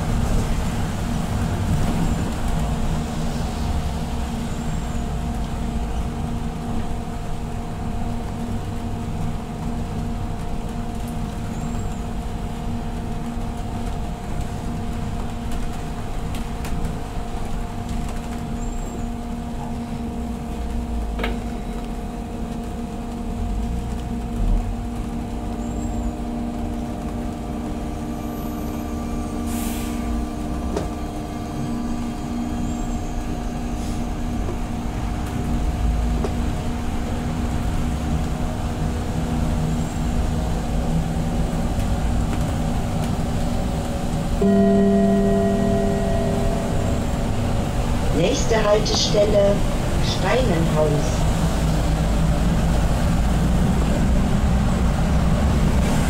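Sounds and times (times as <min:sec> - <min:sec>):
diesel engine humming: 0:00.0 - 0:56.0
road rumble: 0:00.0 - 0:56.0.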